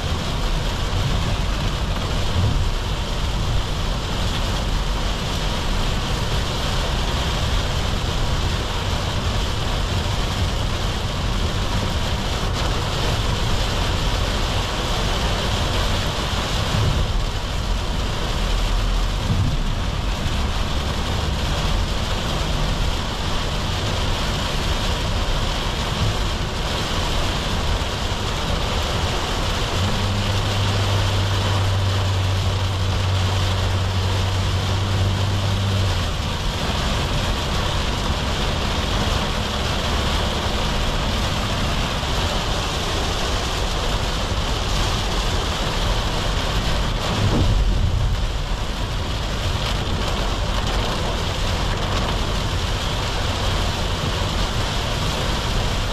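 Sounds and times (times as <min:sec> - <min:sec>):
diesel engine and road rumble: 0:00.0 - 0:55.9
rain on vehicle roof: 0:00.0 - 0:55.9
tyres hissing on wet road: 0:00.0 - 0:55.9.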